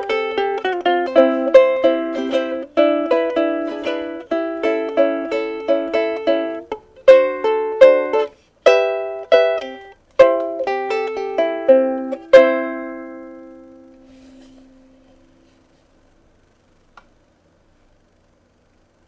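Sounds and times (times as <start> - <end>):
ukulele plucked chords: 0.0 - 15.6.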